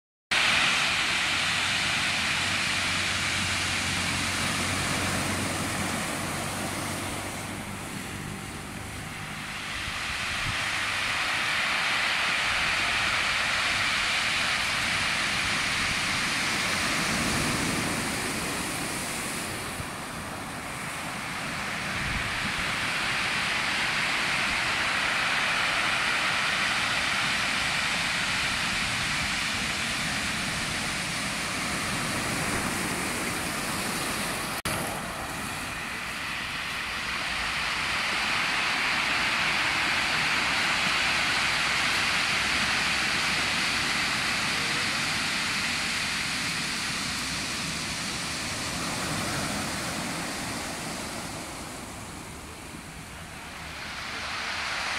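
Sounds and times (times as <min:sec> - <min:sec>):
ocean surf on pebble beach: 0:00.3 - 0:54.9.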